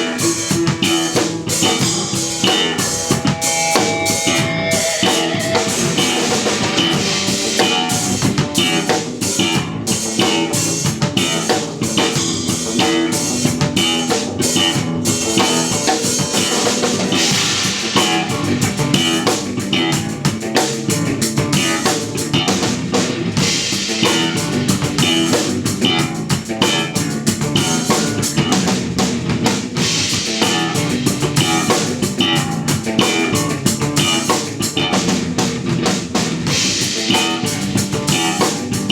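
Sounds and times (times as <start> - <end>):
drums playing steady beat: 0.0 - 38.9
live post-rock band: 0.0 - 38.9.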